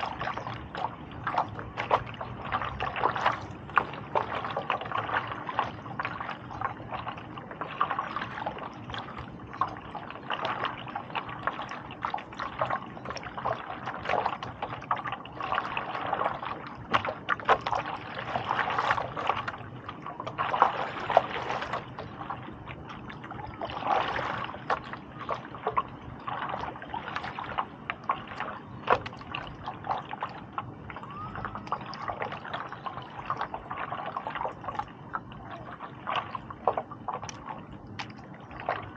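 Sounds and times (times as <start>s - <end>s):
paddle splashing in water: 0.0s - 38.9s
water trickling: 0.0s - 38.9s.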